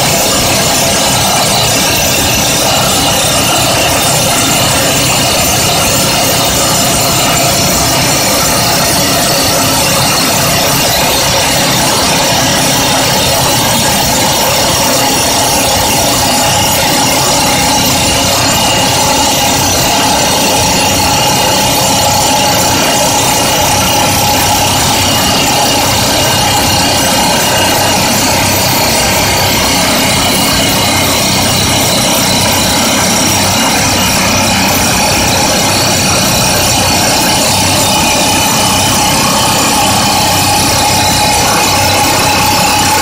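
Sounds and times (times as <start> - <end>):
hydraulic rock drill hammering: 0.0 - 43.0.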